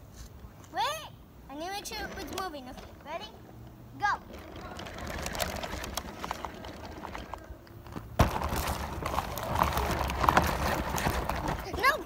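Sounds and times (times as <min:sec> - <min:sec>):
toy truck rattling over dirt: 0:01.8 - 0:12.0.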